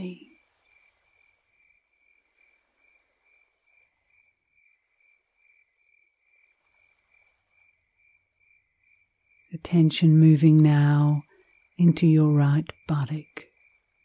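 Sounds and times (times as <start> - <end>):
faint insect-like chirping: 0.0 - 14.0.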